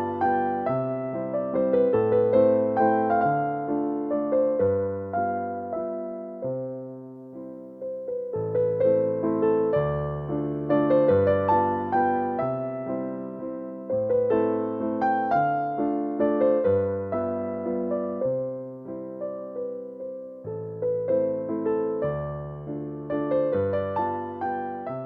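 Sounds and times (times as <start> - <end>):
gentle piano melody: 0.0 - 25.0.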